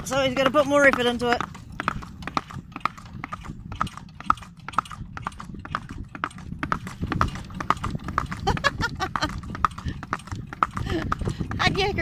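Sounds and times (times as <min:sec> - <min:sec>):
hooves clip-clopping on asphalt: 0:00.0 - 0:12.0.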